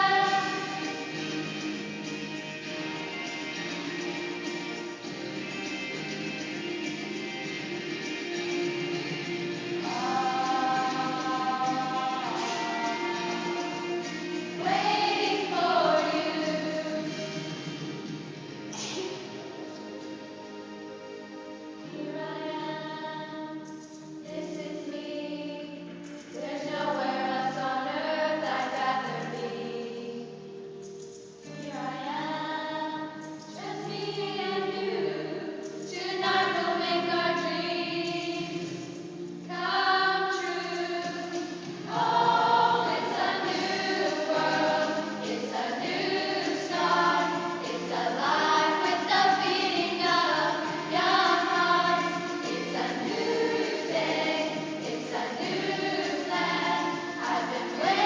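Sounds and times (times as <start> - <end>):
choir singing: 0.0 - 30.5, 31.5 - 58.0.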